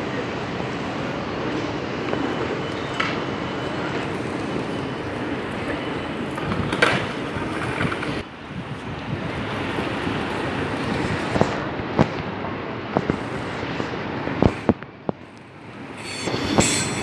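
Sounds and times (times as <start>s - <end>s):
trains rumbling on tracks: 0.0s - 17.0s.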